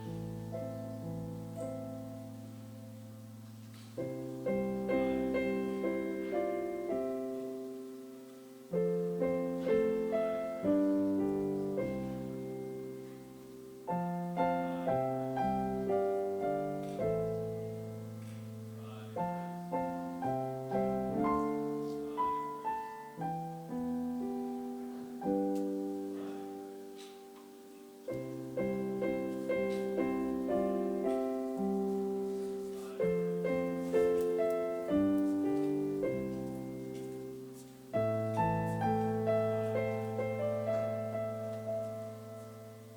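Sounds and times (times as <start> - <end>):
slow solo piano: 0.0 - 42.9.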